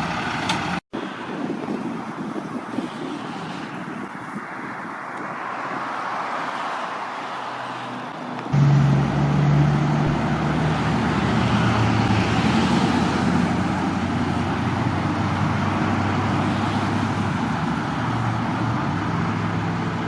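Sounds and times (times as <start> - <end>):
road traffic noise: 0.0 - 20.0
vehicle engines running: 0.0 - 20.0.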